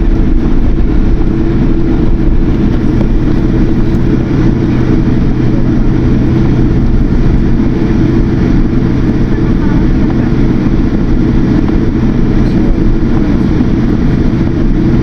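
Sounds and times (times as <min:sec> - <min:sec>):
jet engine cabin noise: 0:00.0 - 0:15.0.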